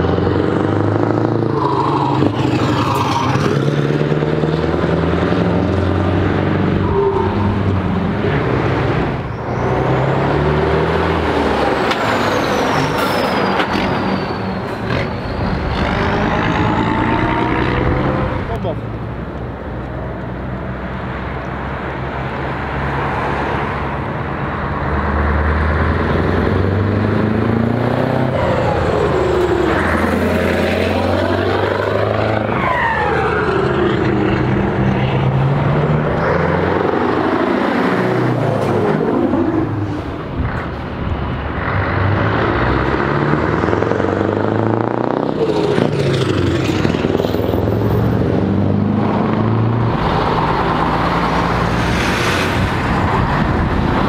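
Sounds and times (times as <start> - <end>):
heavy trucks driving past: 0.0 - 54.0.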